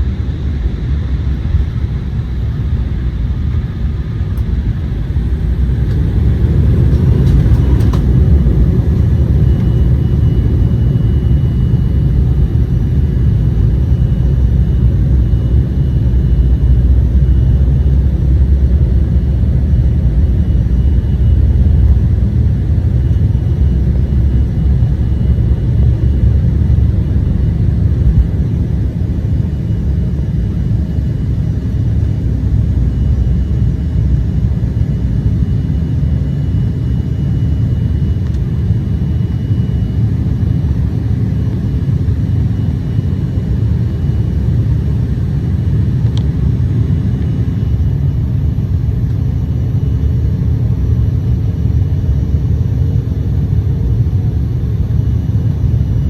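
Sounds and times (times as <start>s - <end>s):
jet cabin engine rumble: 0.0s - 56.0s.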